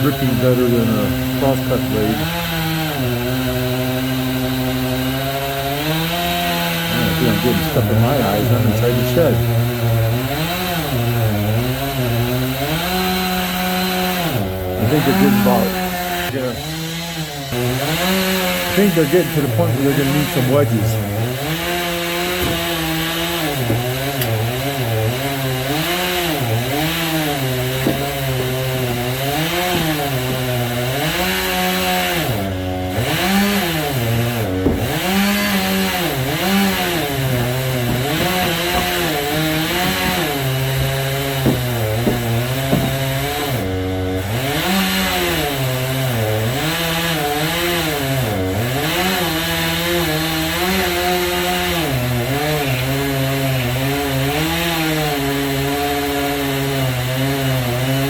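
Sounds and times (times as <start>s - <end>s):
chainsaw ripping through log: 0.0s - 58.0s.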